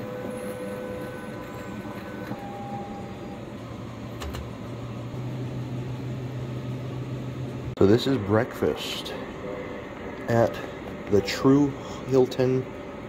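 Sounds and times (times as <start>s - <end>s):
machine humming: 0.0s - 13.0s
machine whining tones: 0.0s - 13.0s.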